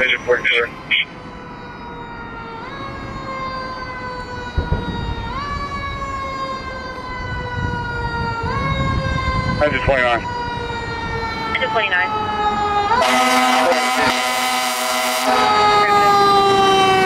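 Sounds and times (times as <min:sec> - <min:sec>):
fire engine siren wailing: 0:00.0 - 0:17.0
low traffic rumble: 0:00.0 - 0:17.0.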